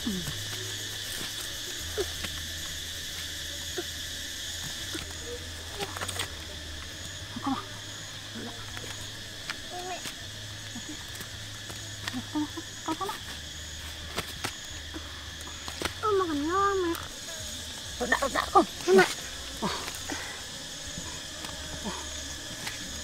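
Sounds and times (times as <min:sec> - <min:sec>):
crickets and insects chirring: 0:00.0 - 0:23.0.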